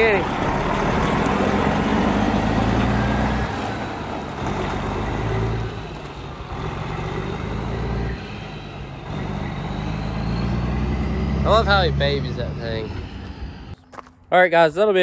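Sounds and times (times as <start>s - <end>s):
truck diesel engine driving off: 0.0s - 13.8s.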